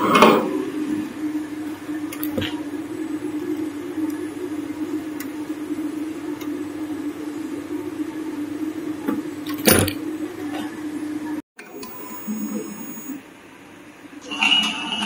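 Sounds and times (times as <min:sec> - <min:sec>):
machine humming: 0:00.7 - 0:13.3.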